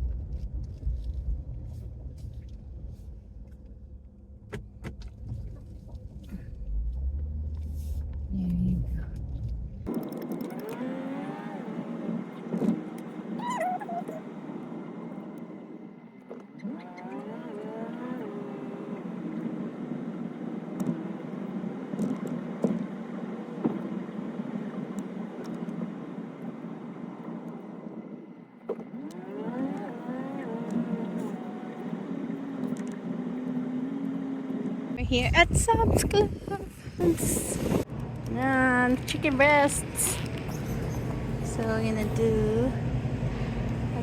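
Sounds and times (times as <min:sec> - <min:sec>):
car engine: 0:00.0 - 0:44.0
road noise: 0:00.0 - 0:44.0.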